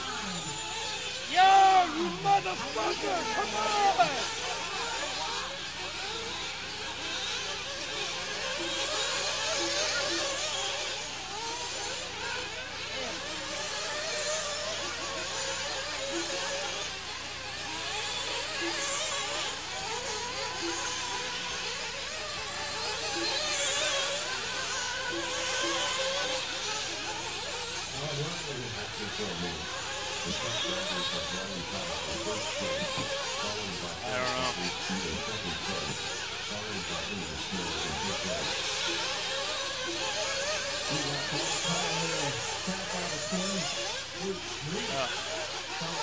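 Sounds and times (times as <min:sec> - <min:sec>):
rc car engines buzzing: 0:00.0 - 0:46.0.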